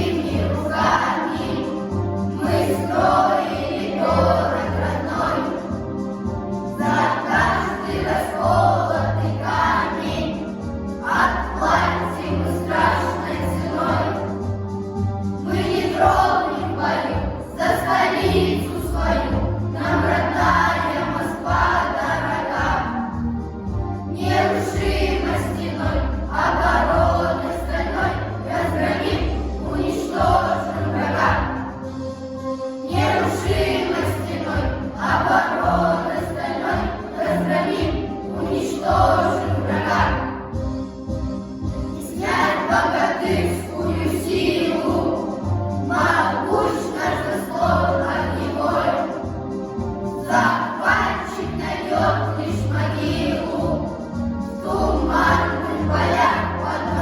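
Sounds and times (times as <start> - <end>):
choir singing: 0.0 - 14.6, 15.3 - 32.1, 32.7 - 40.6, 41.9 - 57.0
instrumental accompaniment: 0.0 - 57.0.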